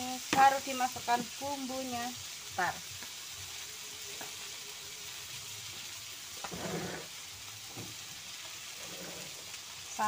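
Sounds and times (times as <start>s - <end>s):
fish frying in a wok: 0.0s - 10.0s.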